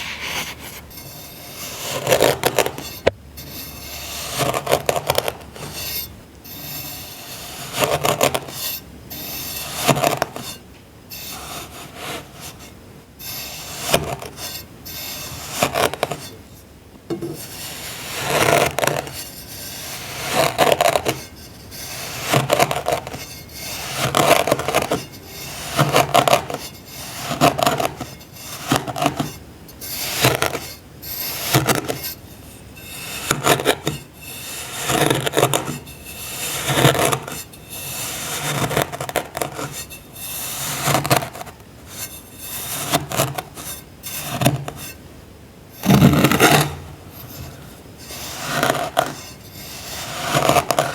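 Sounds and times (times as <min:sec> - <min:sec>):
tool cutting through packed sand: 0:00.0 - 0:10.6, 0:11.2 - 0:16.4, 0:17.2 - 0:45.0, 0:45.8 - 0:50.9.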